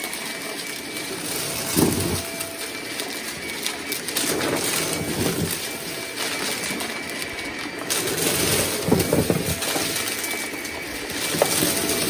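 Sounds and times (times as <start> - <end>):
crackles of debris sucked in: 0.0 - 12.0
stick vacuum running on carpet: 0.0 - 12.0.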